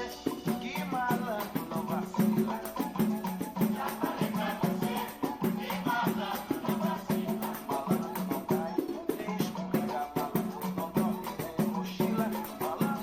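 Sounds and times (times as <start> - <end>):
percussion groove: 0.0 - 13.0
person singing: 0.0 - 13.0
tambourine jingles: 0.0 - 13.0.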